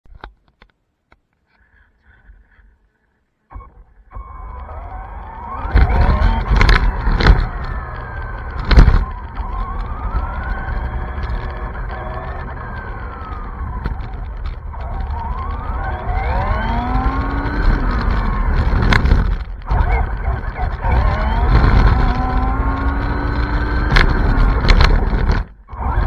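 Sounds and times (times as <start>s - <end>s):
rc car motor whining: 3.5s - 26.0s
road and wind rumble: 3.5s - 26.0s.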